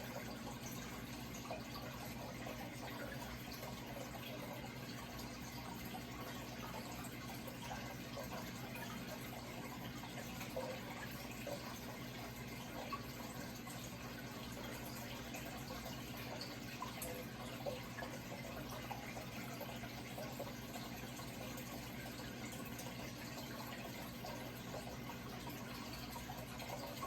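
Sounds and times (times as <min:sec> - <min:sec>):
water drips: 0:00.0 - 0:27.0
water trickling and splashing: 0:00.0 - 0:27.0.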